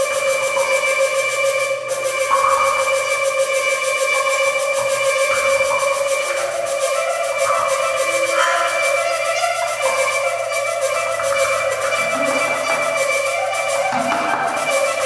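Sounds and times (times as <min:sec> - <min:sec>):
fast high flutter: 0:00.0 - 0:15.0
long held wind-like tones: 0:00.0 - 0:15.0.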